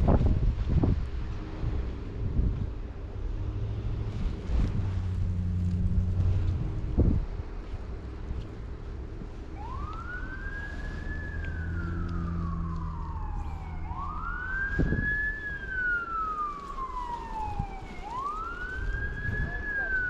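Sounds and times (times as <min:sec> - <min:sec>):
low traffic rumble: 0:00.0 - 0:20.0
emergency vehicle siren wailing: 0:03.2 - 0:20.0.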